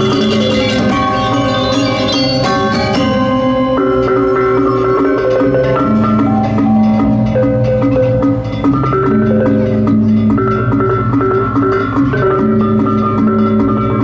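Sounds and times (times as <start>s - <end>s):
gamelan ensemble playing: 0.0s - 14.0s.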